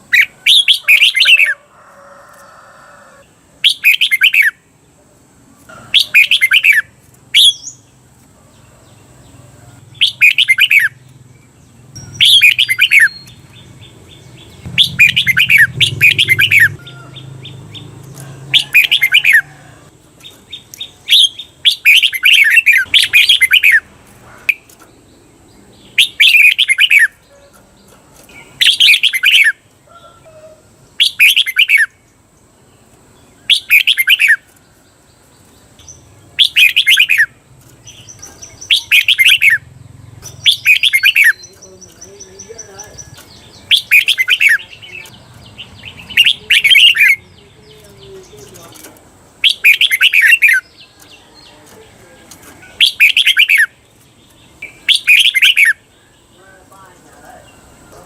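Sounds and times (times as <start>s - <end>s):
bird chirping song: 0.0s - 1.7s, 3.1s - 58.0s.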